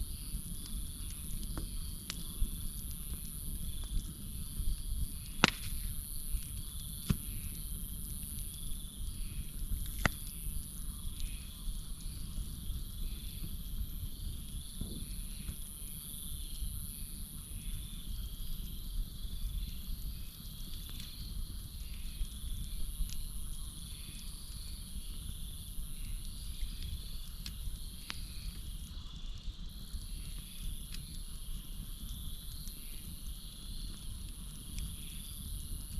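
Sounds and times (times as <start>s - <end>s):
campfire crackling: 0.0s - 35.9s
crickets chirping: 0.0s - 35.9s.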